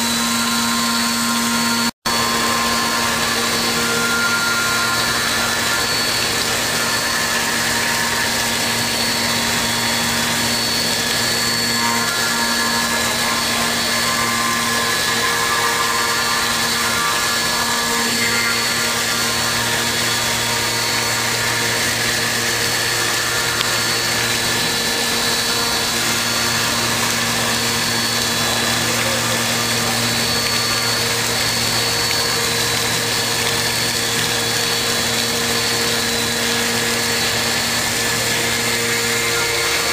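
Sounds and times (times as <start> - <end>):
high spindle whine: 0.0 - 39.9
machine hum: 0.0 - 39.9.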